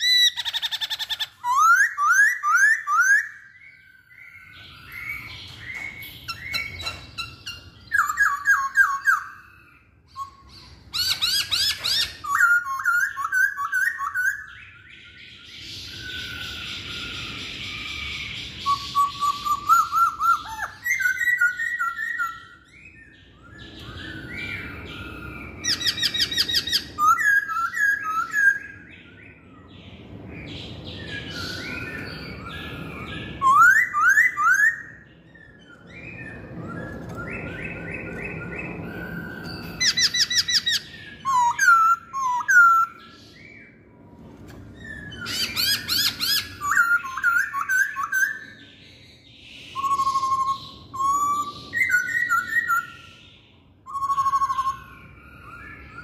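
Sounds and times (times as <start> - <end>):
bird singing whistled phrases: 0.0 - 29.7, 30.9 - 43.8, 44.7 - 56.0.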